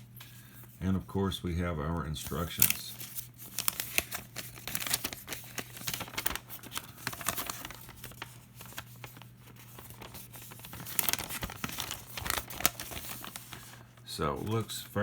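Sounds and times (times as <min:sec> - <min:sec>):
plastic bag crinkling: 0:02.1 - 0:15.0.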